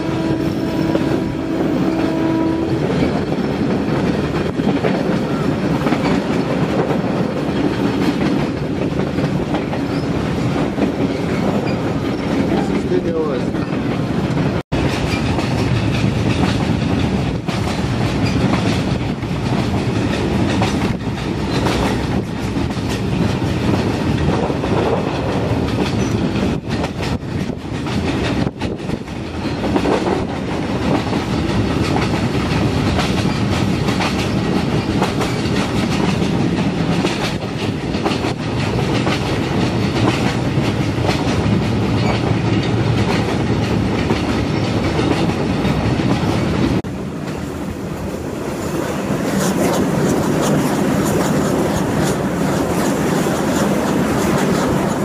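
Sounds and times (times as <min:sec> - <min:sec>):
clickety-clack over rail joints: 0:00.0 - 0:55.0
train wheels and carriage rumble: 0:00.0 - 0:55.0.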